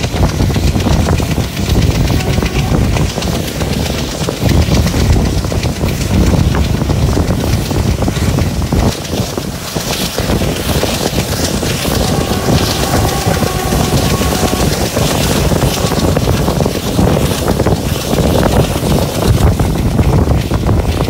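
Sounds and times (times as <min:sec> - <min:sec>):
diesel engine chugging: 0:00.0 - 0:21.0
wheels clattering on rails: 0:00.0 - 0:21.0
wind on microphone: 0:00.0 - 0:21.0.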